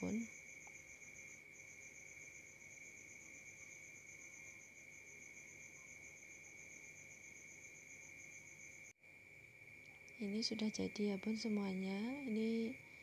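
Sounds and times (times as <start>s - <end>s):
insect high-pitched trill: 0.0s - 13.0s
insects pulsing chirp: 0.0s - 13.0s.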